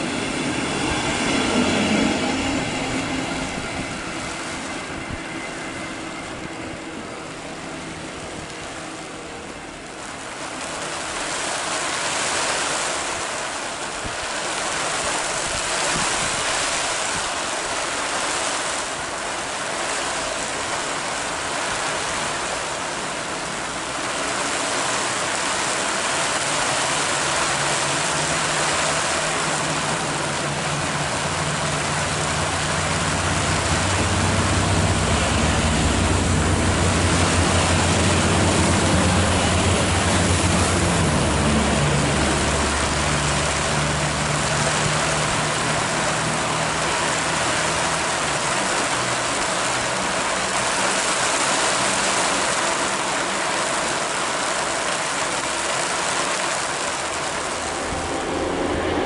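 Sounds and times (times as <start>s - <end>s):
train coaches rushing over track: 0.0s - 12.0s, 17.0s - 59.0s
low diesel engine drone: 0.0s - 59.0s.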